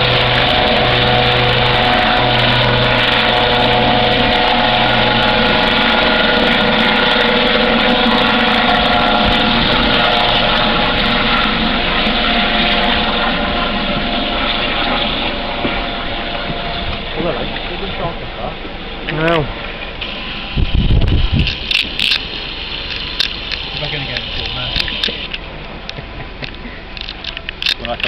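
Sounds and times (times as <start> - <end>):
helicopter turbine whine: 0.0 - 28.0
throbbing rotor noise: 0.0 - 28.0.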